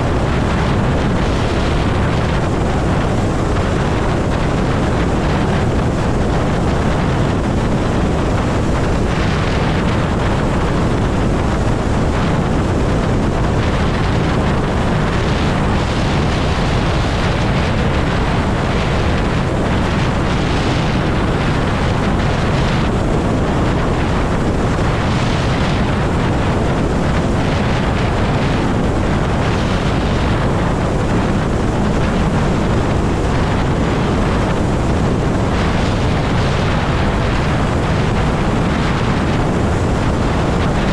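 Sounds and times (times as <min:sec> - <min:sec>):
tyre and road noise: 0:00.0 - 0:40.9
wind buffeting microphone: 0:00.0 - 0:40.9.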